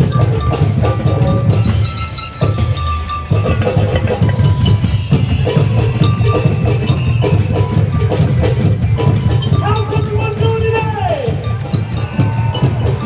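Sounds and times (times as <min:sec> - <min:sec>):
pitched melody: 0:00.0 - 0:13.0
wood block strikes: 0:00.0 - 0:13.0.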